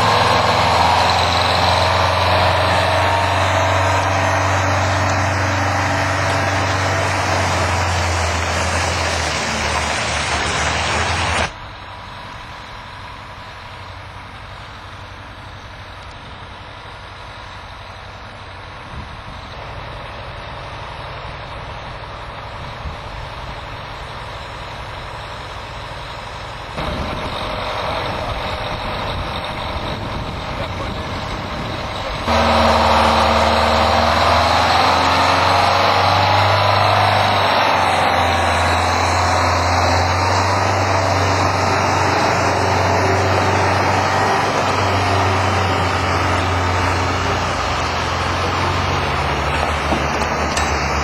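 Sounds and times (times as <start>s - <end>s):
heavy diesel engine running: 0.0s - 51.0s.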